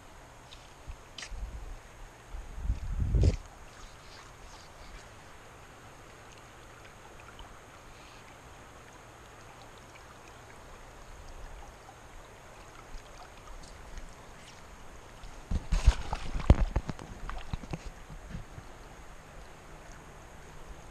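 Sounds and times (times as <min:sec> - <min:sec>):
river flowing over gravel: 0:00.0 - 0:20.9
small water splashes: 0:02.1 - 0:20.9.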